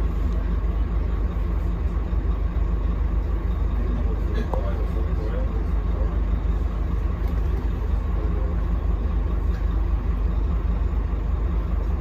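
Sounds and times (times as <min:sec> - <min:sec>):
bus diesel engine rumble: 0:00.0 - 0:12.0.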